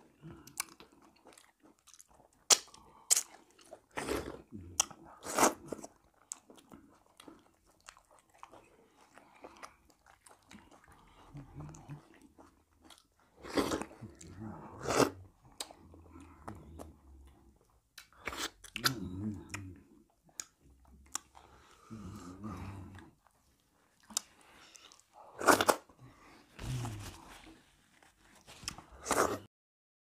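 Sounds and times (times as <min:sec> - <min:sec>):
chewing with mouth clicks: 0:00.2 - 0:26.0, 0:27.9 - 0:29.4.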